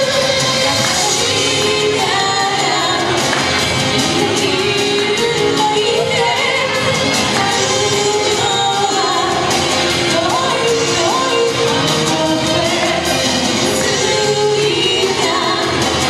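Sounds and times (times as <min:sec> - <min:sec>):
song with vocals and instruments: 0:00.0 - 0:16.0.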